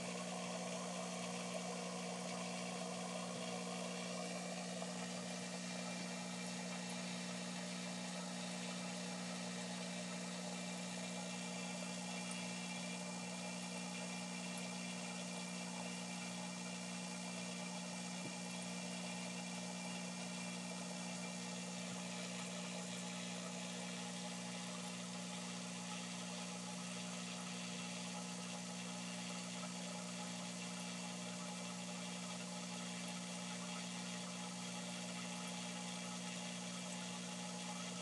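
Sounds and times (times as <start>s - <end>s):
low motor hum with hiss: 0.0s - 38.0s.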